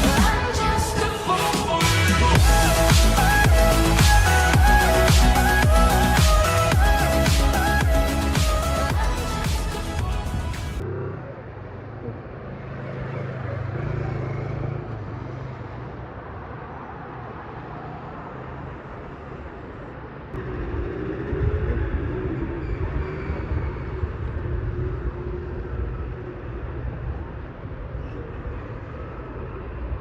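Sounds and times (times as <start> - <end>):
busy road traffic: 0.0 - 30.0.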